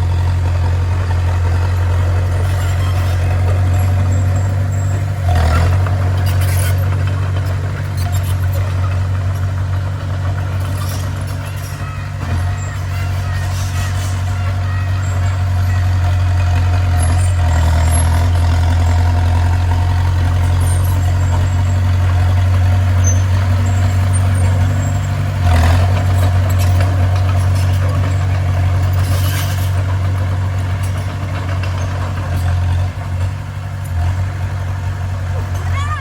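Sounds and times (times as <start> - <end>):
diesel engine droning: 0.0 - 36.0.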